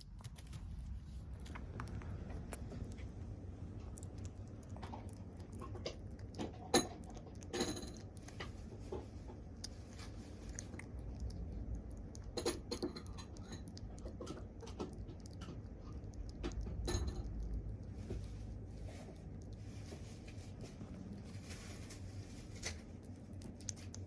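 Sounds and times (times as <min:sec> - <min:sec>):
kittens playing in basket: 0:00.0 - 0:24.0
low steady hum: 0:00.0 - 0:24.0.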